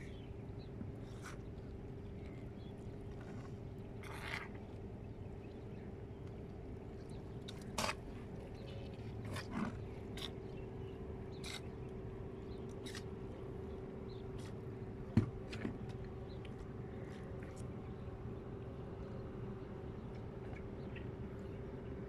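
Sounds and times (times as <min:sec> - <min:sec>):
faint steady hum: 0:00.0 - 0:22.0
seaside background noise: 0:00.0 - 0:22.0.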